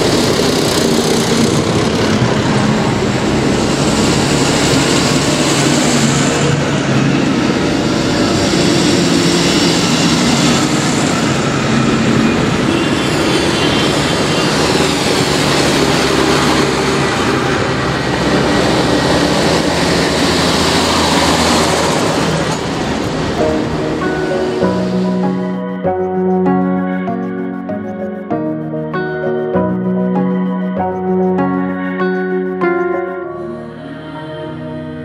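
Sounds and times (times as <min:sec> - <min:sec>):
tractor engines driving past: 0:00.0 - 0:28.2.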